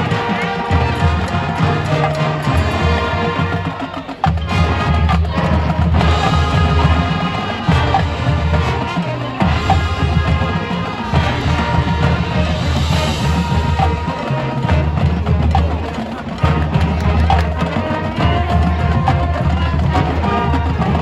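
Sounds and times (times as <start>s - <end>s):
drumline playing rock: 0.0s - 21.0s.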